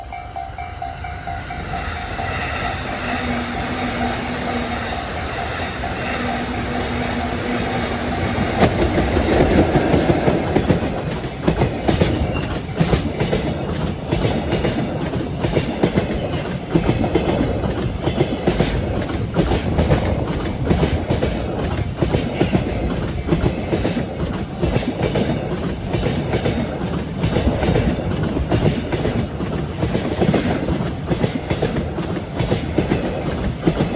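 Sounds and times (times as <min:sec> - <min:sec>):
electric locomotive passing: 0:00.0 - 0:33.9
train wheels clicking on rail joints: 0:01.4 - 0:33.9.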